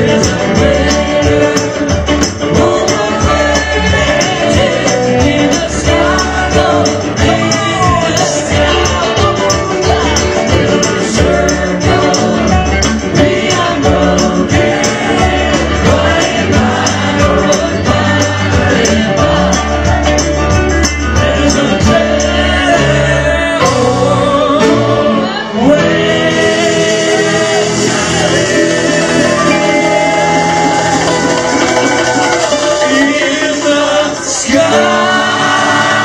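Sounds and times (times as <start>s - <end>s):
band playing a song: 0.0s - 36.0s
voices singing: 0.0s - 36.0s.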